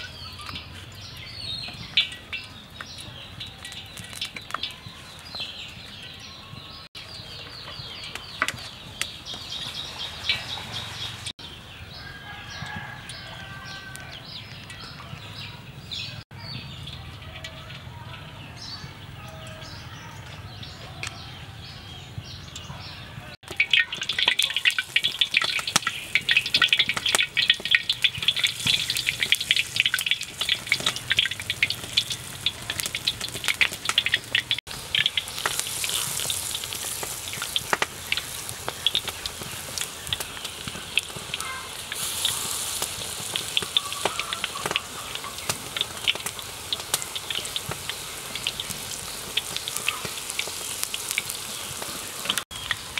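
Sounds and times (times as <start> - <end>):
deep-frying sizzle with crackling pops: 0.0 - 11.4, 12.0 - 15.3, 23.4 - 52.9.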